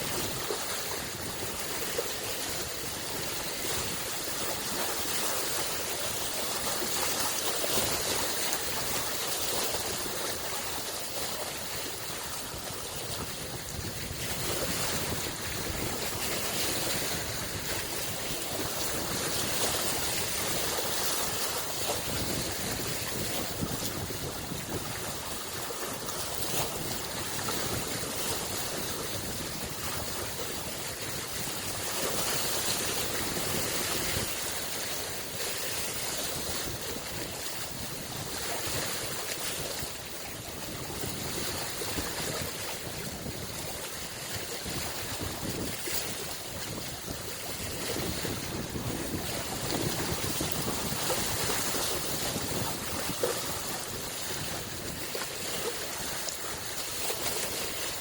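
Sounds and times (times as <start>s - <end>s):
lake waves lapping on shore: 0.0s - 58.0s.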